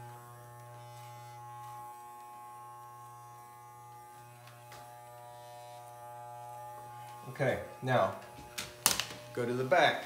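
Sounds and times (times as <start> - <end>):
electric hair clippers buzzing: 0.0 - 10.0.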